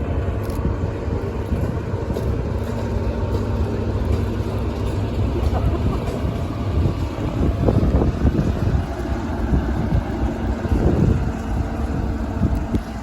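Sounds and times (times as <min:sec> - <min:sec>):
diesel train rumbling past: 0:00.0 - 0:13.0.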